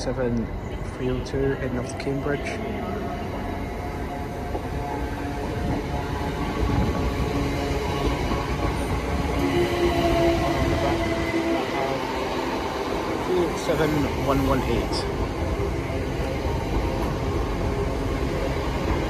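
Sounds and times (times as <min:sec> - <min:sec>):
train wheels rumbling on track: 0:03.2 - 0:19.0.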